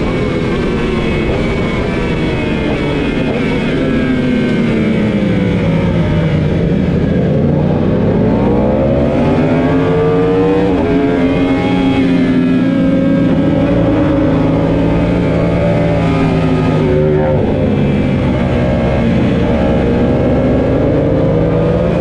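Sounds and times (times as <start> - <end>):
motorcycle engine at race pace: 0.0 - 22.0.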